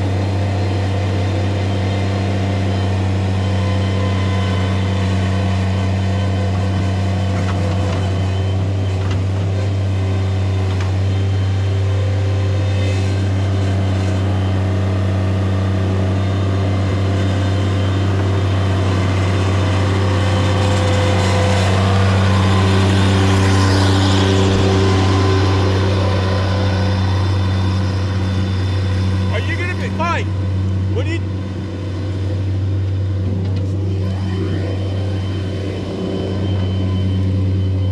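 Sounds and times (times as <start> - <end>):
heavy machinery engine running: 0.0 - 37.9.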